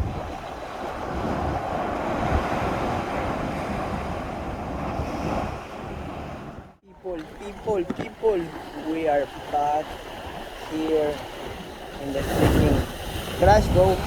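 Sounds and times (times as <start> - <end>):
ocean surf washing: 0.0 - 14.0
wind buffeting microphone: 0.0 - 14.0.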